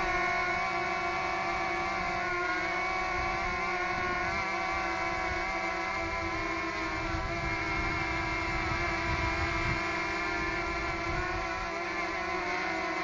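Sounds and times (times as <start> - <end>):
drone propellers buzzing: 0.0 - 13.0
wind rumbling on microphone: 0.0 - 13.0.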